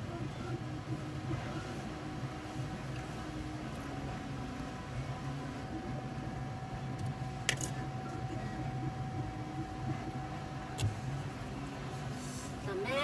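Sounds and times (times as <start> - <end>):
faint steady whine: 0.0 - 13.0
steady low hum: 0.0 - 13.0.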